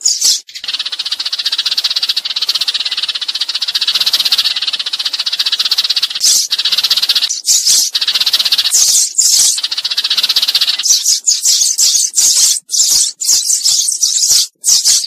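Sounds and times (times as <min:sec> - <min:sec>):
sparrows chattering: 0:00.0 - 0:15.0.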